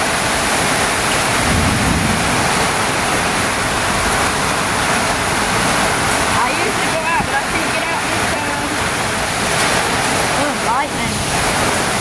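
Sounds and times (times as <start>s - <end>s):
low gust of wind: 0.0s - 12.0s
torrential rain pouring: 0.0s - 12.0s.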